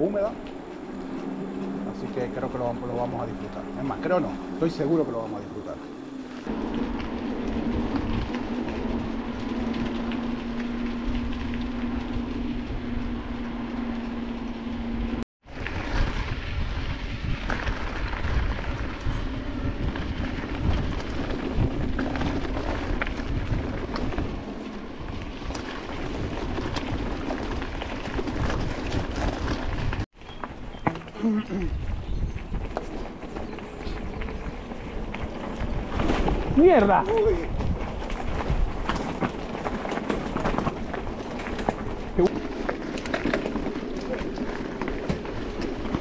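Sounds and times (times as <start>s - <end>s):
wind rumble on camera: 0.0s - 46.0s
bike rattles and knocks: 6.4s - 46.0s.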